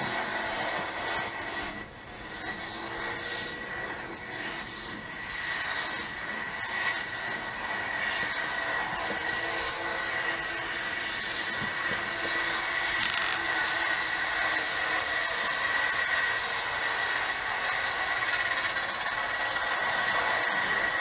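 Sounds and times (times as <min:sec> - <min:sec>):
constant high whine: 0:00.0 - 0:21.0.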